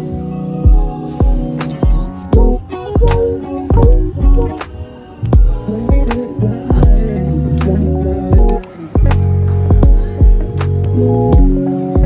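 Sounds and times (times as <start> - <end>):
background music with drum beat: 0.6 - 12.0.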